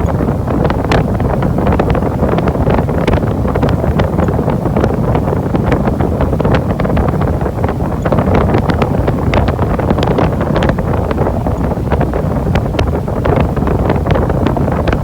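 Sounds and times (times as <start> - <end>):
air rushing through ventilation unit: 0.0 - 15.0
wind buffeting microphone: 0.0 - 15.0.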